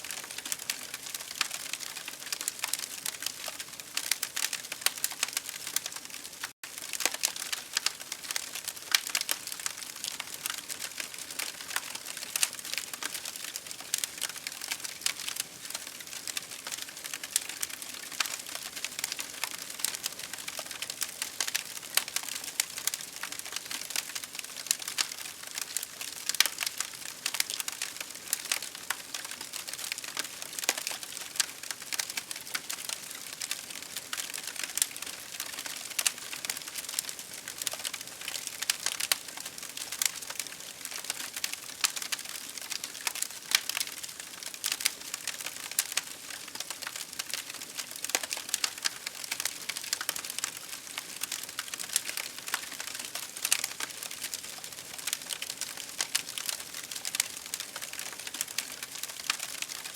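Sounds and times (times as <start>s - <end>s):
campfire crackling and popping: 0.1s - 59.9s.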